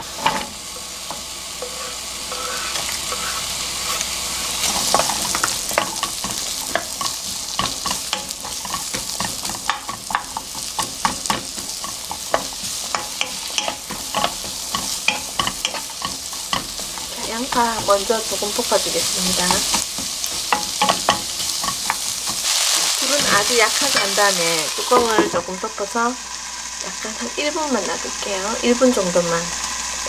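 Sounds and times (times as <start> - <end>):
wooden spatula scraping pan: 0.0 - 25.4
onion frying in hot oil: 0.0 - 30.0.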